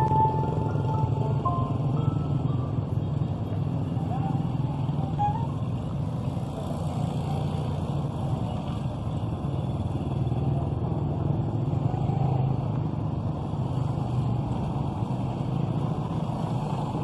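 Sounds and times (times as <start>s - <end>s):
small motorcycles riding past: 3.1s - 17.0s.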